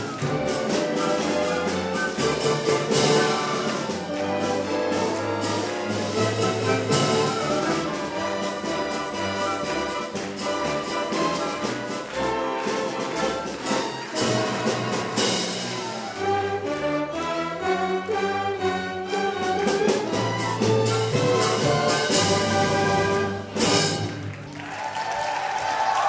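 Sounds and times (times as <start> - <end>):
chamber orchestra playing: 0.0 - 24.6.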